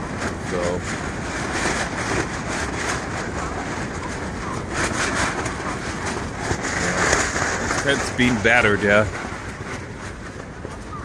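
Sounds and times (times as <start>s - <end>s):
strong wind gusts rumbling: 0.0s - 11.0s.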